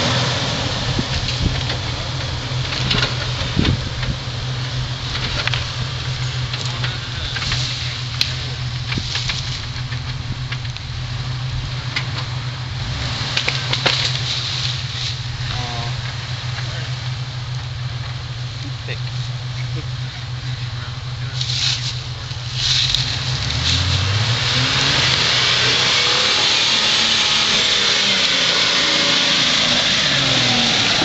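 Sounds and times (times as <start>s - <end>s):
car engine running at low revs: 0.0s - 31.0s.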